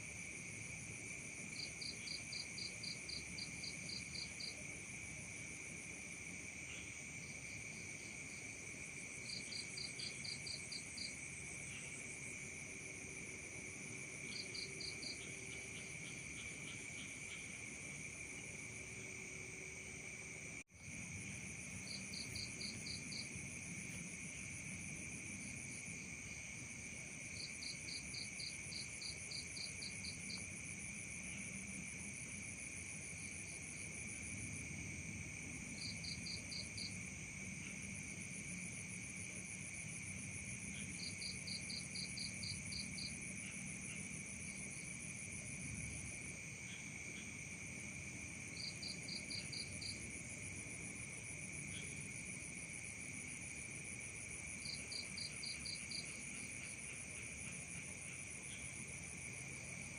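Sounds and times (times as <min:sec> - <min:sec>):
rapid cricket chirps: 0:00.0 - 0:59.9
insects trilling: 0:06.2 - 0:59.9.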